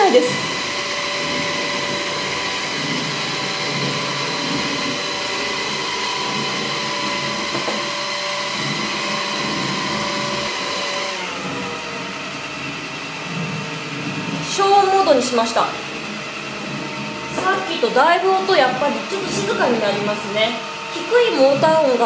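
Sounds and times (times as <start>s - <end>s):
robot vacuum cleaner whine: 0.0s - 22.0s.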